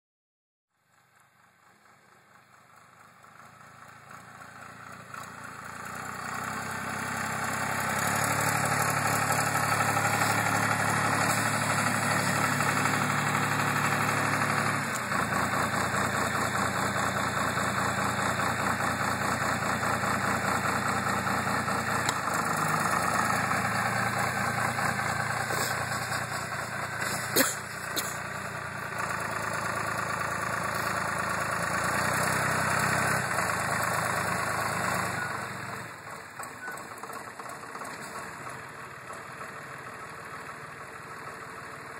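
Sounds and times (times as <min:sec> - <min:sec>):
diesel engine running: 0:00.8 - 0:41.9.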